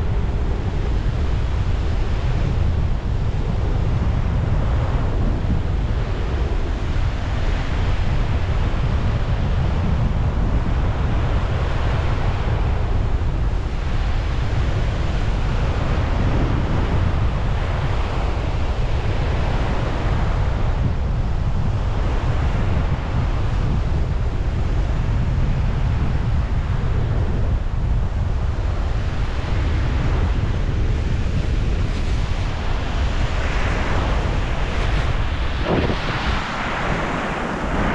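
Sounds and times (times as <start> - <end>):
strong wind on microphone: 0.0 - 37.9.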